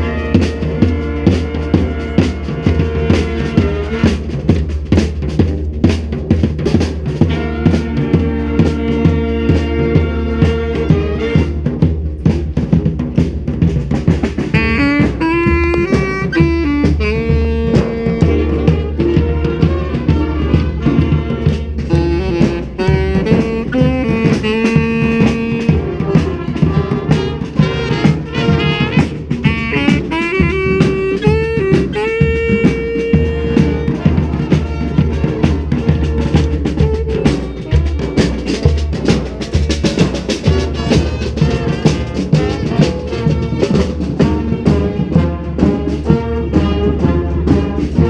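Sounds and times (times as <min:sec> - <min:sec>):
brass band playing: 0:00.0 - 0:48.0
drum beat: 0:00.0 - 0:48.0.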